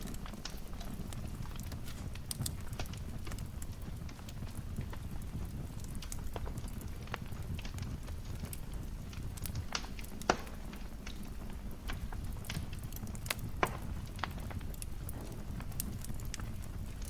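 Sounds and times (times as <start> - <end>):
loud fire pops: 0.0 - 17.0
low rumble of flames: 0.0 - 17.0
wood fire crackling: 0.0 - 17.0.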